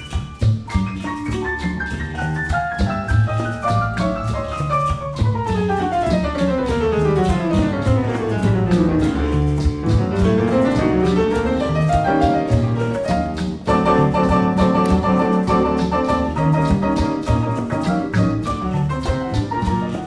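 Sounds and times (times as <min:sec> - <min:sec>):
upbeat jazzy piano music: 0:00.0 - 0:20.0.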